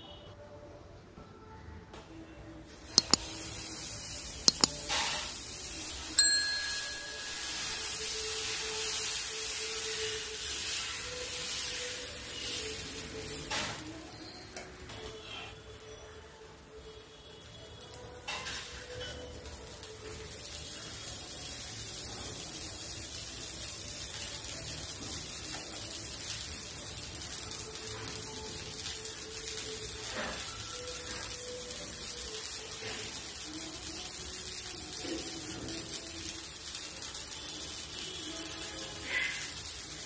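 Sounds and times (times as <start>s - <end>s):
frying hiss: 2.6s - 40.0s.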